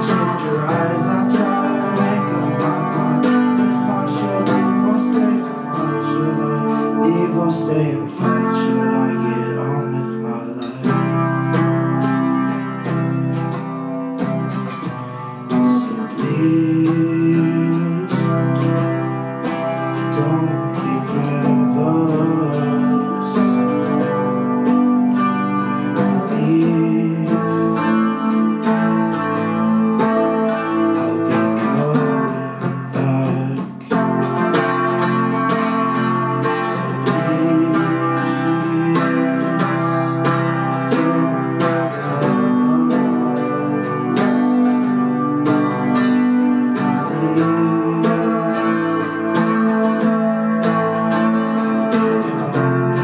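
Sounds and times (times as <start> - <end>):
electric guitar playing: 0.0 - 53.0.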